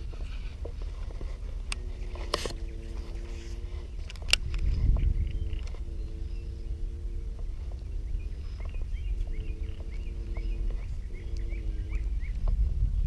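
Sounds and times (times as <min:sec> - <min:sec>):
low steady hum: 0:00.0 - 0:13.0
wind rumble on microphone: 0:00.0 - 0:13.0
bird chirping: 0:01.0 - 0:13.0.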